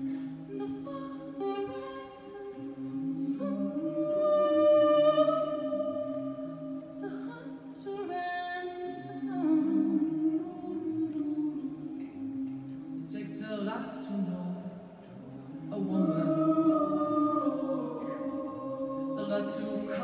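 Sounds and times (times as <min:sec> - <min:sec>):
mixed choir singing: 0:00.5 - 0:14.4, 0:15.0 - 0:20.0.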